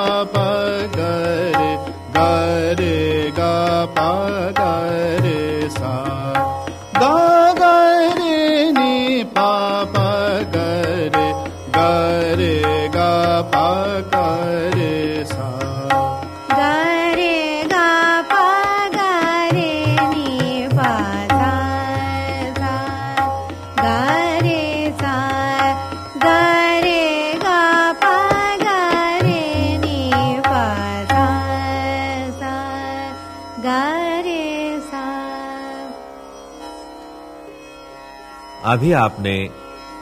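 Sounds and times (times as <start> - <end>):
tabla: 0.0 - 36.8, 38.4 - 40.0.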